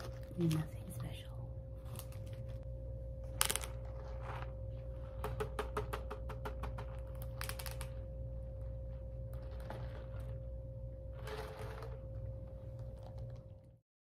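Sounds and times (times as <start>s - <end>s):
electrical hum: 0.0s - 13.8s
low rumble: 0.0s - 13.8s.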